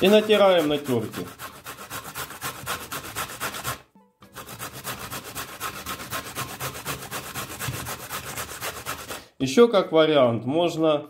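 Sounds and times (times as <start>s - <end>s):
radish rasping on a grater: 0.0s - 9.3s.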